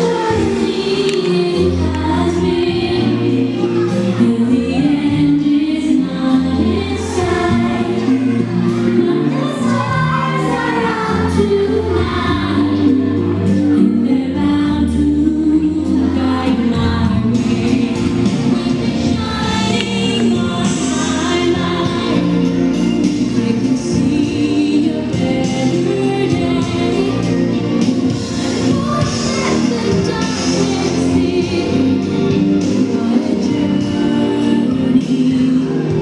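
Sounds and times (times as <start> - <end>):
dance music with choir: 0.0 - 36.0.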